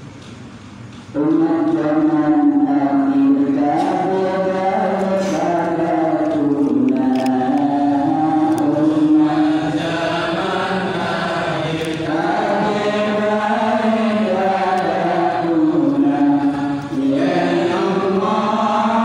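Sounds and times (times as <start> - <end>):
man chanting religious recitation: 1.1 - 19.0.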